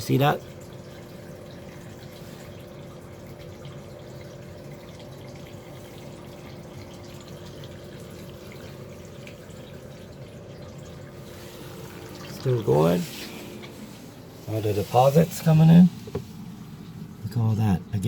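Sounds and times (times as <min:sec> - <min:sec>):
water splashing into bucket: 0:00.0 - 0:17.2
faint steady hum: 0:00.0 - 0:18.0.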